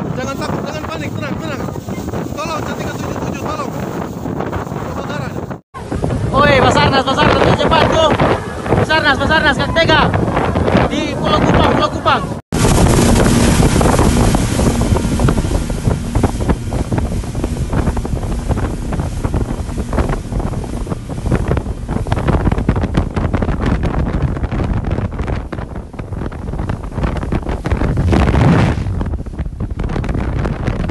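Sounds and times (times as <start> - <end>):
outboard motors: 0.0 - 30.9
water rushing and spray: 0.0 - 30.9
wind buffeting microphone: 0.0 - 30.9.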